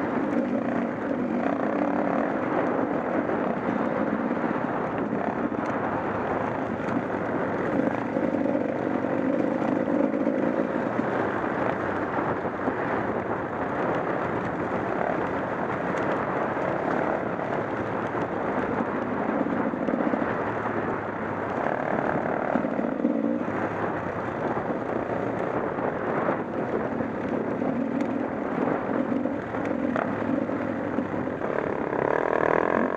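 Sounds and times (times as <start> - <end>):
motorcycle engine running: 0.0 - 32.9
road and wind noise: 0.0 - 32.9.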